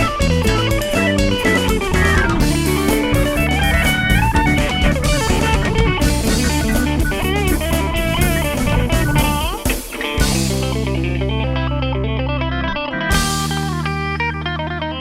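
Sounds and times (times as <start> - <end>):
drum kit: 0.0 - 11.8, 13.0 - 14.8
bass guitar: 0.0 - 15.0
lead guitar solo: 0.0 - 15.0.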